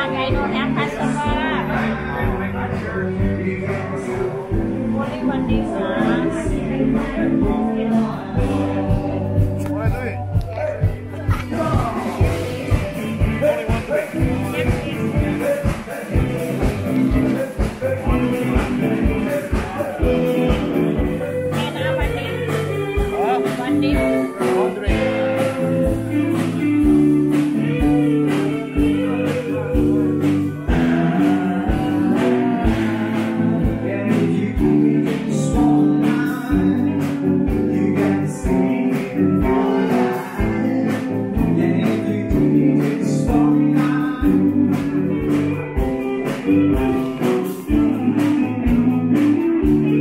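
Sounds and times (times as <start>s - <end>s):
bass: 0.0s - 50.0s
guitar: 0.0s - 50.0s
person singing: 0.0s - 50.0s
steady drum beat: 0.0s - 50.0s.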